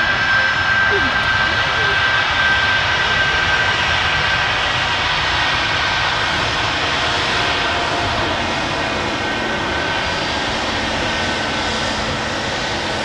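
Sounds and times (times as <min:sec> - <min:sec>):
high jet whine: 0:00.0 - 0:13.0
jet engines rumbling: 0:00.0 - 0:13.0.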